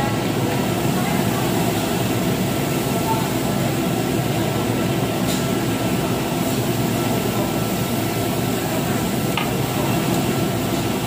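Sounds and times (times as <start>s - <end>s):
exhaust hood air roar: 0.0s - 11.0s.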